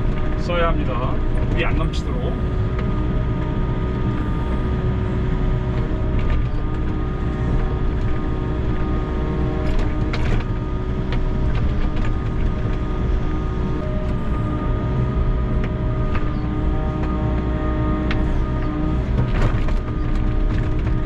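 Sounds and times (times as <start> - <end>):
diesel engine running with whine: 0.0 - 21.0.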